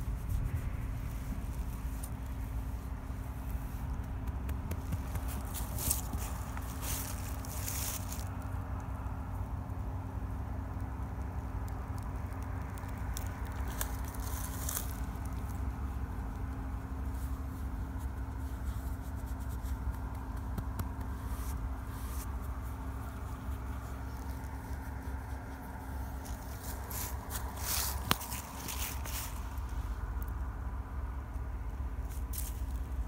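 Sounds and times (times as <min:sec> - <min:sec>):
low microphone rumble: 0:00.0 - 0:33.0.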